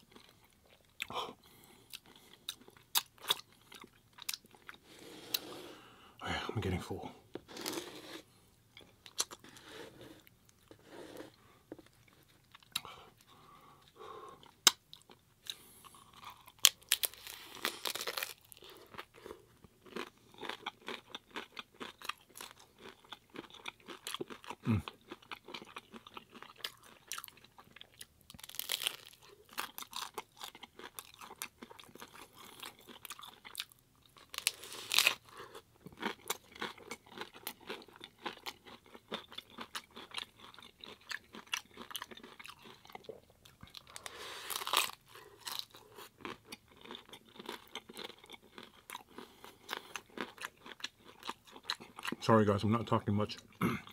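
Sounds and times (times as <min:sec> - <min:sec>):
chewing crunchy taco shells: 0:00.0 - 0:53.9.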